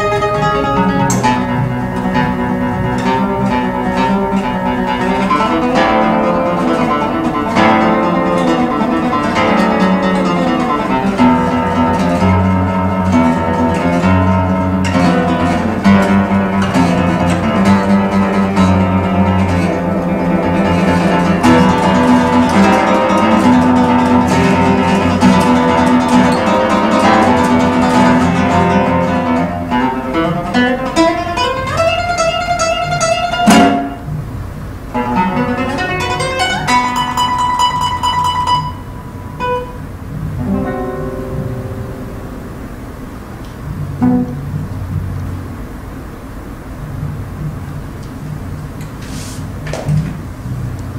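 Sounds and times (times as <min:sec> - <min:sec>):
solo classical guitar: 0:00.0 - 0:45.9.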